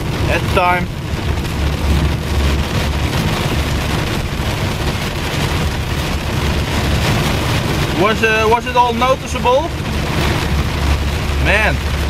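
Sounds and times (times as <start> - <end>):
car engine and road rumble: 0.0 - 12.0
rain falling on car: 0.0 - 12.0.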